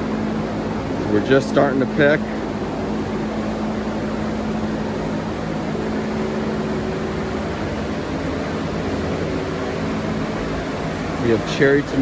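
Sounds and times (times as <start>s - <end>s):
ventilation fan running: 0.0s - 12.0s.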